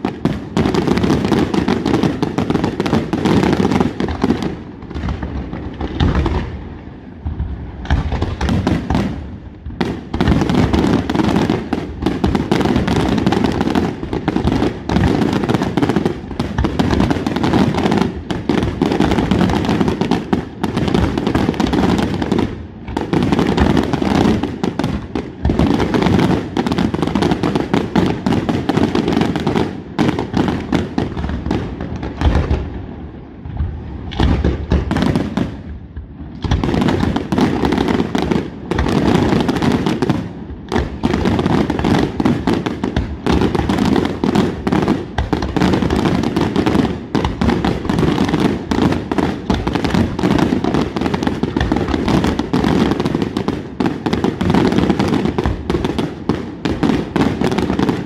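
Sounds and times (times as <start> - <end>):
fireworks bursts and crackling: 0.0 - 58.0.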